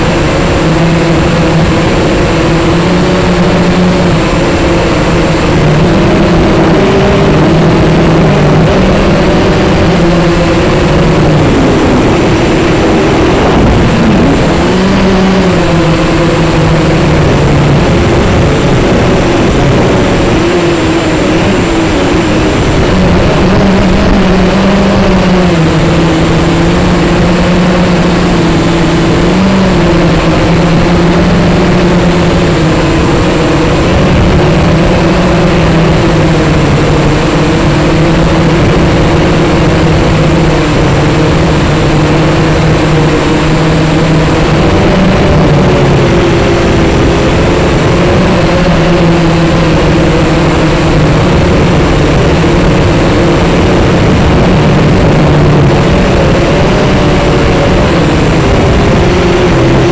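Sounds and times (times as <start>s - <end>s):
drone motors humming: 0.0s - 59.9s.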